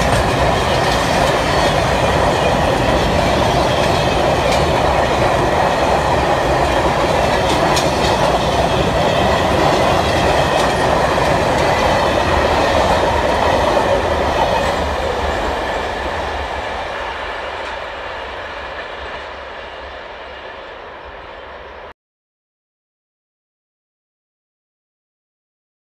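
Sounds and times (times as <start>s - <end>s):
faint rail clacks: 0.0s - 20.8s
train wheels rumbling on rails: 0.0s - 21.9s.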